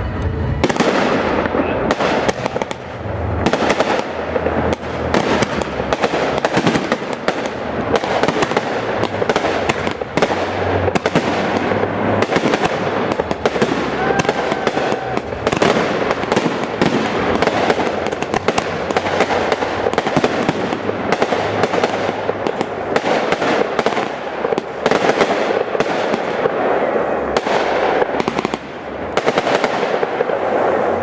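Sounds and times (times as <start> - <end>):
fireworks crackling: 0.0 - 31.0
fireworks shell bursts: 0.7 - 26.6.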